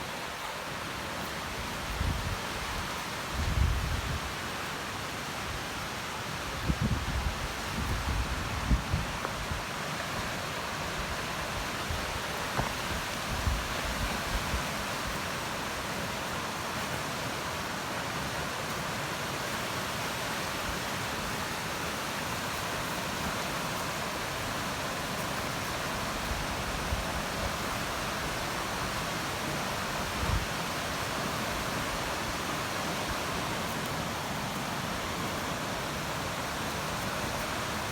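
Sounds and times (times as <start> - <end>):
steady outdoor rushing noise: 6.3 - 37.9.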